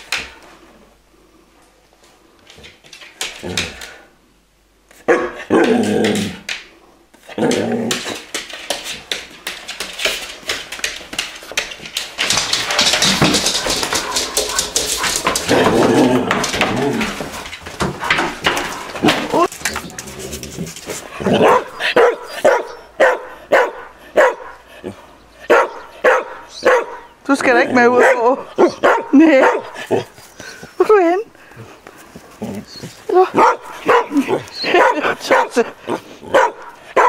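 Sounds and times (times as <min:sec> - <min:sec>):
dogs barking indoors: 0:04.9 - 0:30.8, 0:31.4 - 0:37.0.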